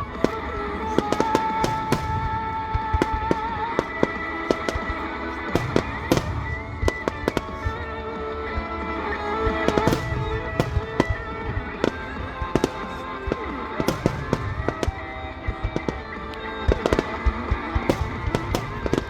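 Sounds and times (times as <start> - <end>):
fireworks bangs and crackles: 0.0 - 19.0
music: 0.0 - 19.0.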